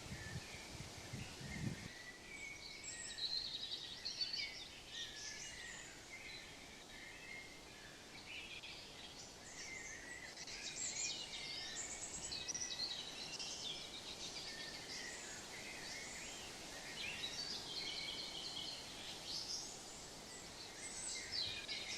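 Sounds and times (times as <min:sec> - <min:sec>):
low outdoor hiss: 0:00.0 - 0:21.9
small birds chirping and singing: 0:00.0 - 0:21.9.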